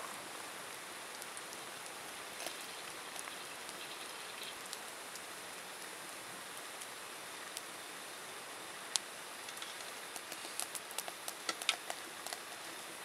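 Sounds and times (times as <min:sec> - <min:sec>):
campfire hissing: 0:00.0 - 0:13.0
fire crackles and pops: 0:00.0 - 0:13.0.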